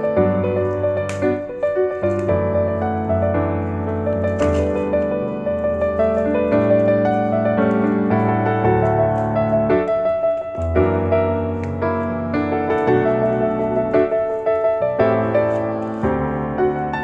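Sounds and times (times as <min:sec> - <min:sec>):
piano chords over bass line: 0:00.0 - 0:17.0.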